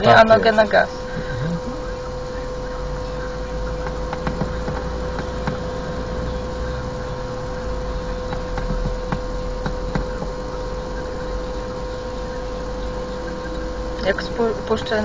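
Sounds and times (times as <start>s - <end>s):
car engine idling: 0.0s - 15.0s
thin whine: 0.0s - 15.0s.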